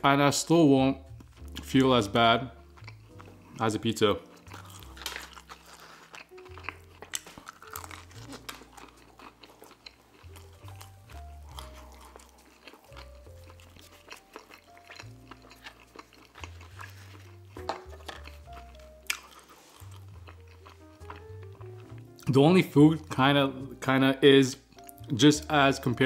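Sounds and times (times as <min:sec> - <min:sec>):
chewing and biting pizza: 0:01.1 - 0:23.1.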